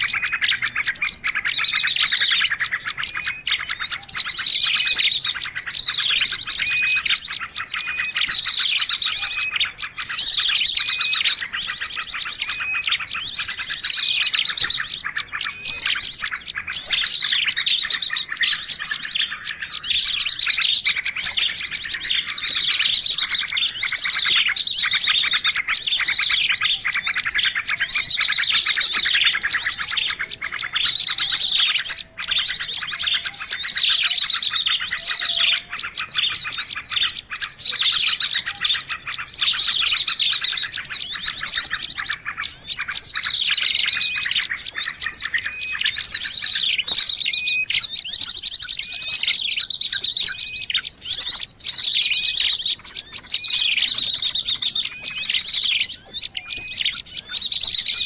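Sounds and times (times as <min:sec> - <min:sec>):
songbirds chirping and twittering: 0:00.0 - 0:58.0.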